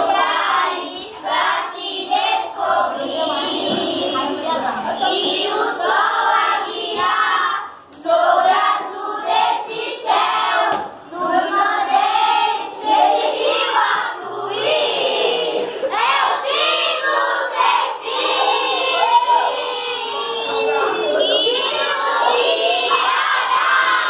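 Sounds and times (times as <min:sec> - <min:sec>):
children singing together: 0:00.0 - 0:24.0.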